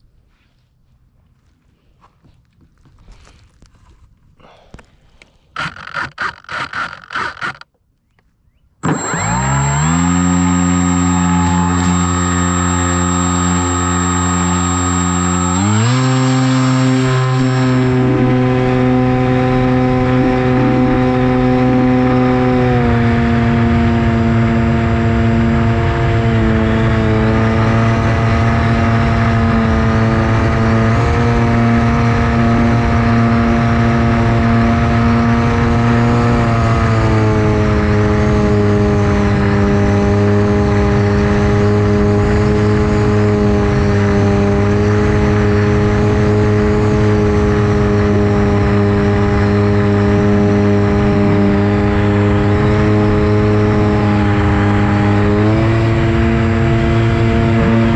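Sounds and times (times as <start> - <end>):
electric motor and propeller: 5.5 - 7.7, 8.8 - 57.9.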